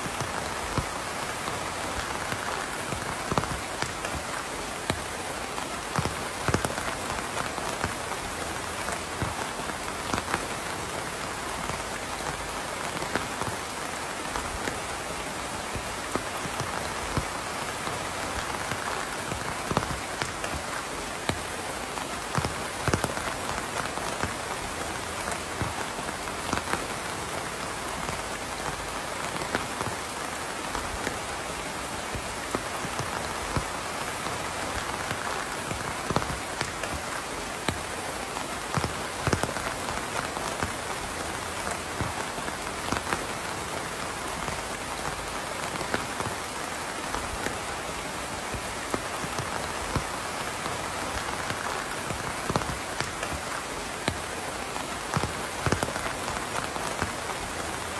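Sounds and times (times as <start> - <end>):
rain hissing: 0.0 - 57.9
raindrops pattering: 0.0 - 57.9.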